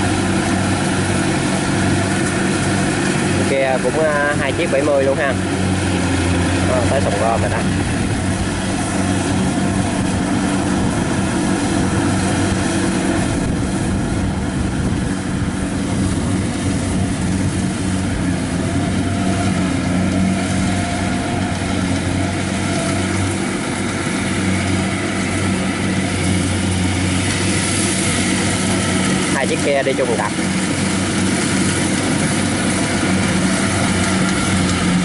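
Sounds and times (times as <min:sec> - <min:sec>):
combine harvester diesel drone: 0:00.0 - 0:35.0.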